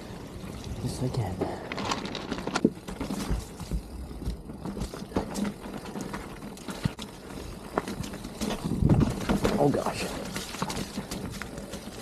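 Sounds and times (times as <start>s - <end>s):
bike chain and frame rattling: 0.0s - 12.0s
bike tyres rumbling on trail: 0.0s - 12.0s.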